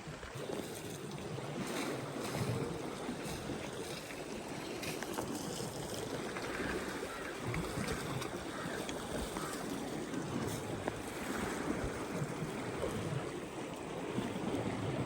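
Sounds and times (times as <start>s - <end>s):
wind buffeting microphone: 1.2s - 15.0s.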